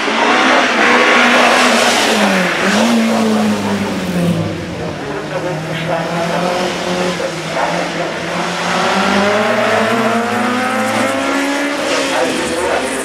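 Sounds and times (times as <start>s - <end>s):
race car engine revving past: 0.0s - 13.0s.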